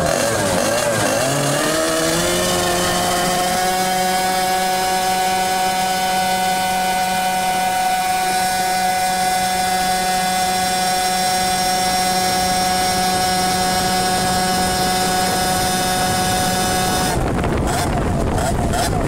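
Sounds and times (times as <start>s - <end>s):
kart engine running steadily: 0.0s - 19.0s.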